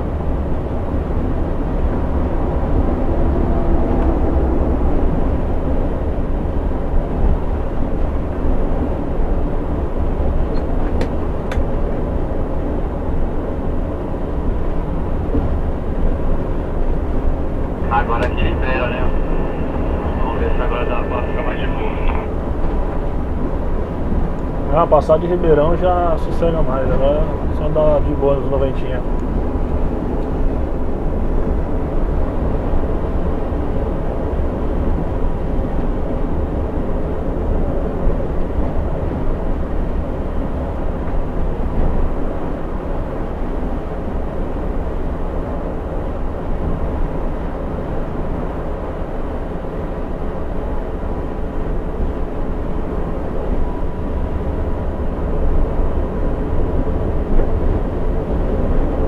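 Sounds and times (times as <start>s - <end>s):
faint steady whine: 0.0s - 10.7s, 15.0s - 59.0s
diesel engine drone: 0.0s - 59.0s
tyre road noise: 0.0s - 59.0s.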